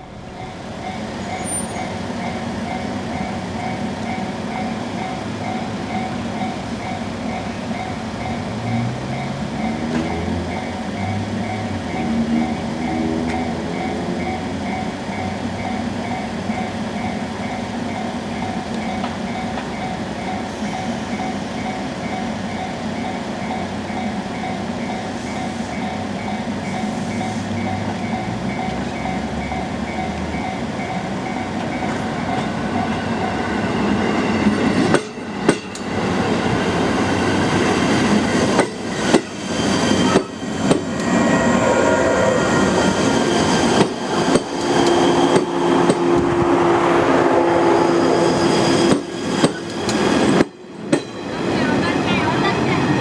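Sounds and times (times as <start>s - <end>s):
electric train running past: 0.0s - 53.0s.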